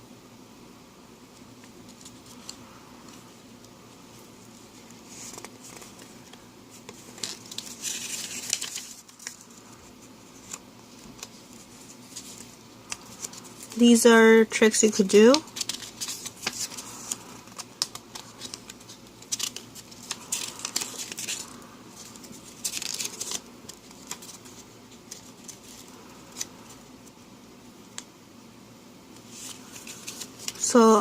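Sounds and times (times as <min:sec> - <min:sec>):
paper and cards rustling: 0:01.3 - 0:27.2, 0:29.2 - 0:31.0.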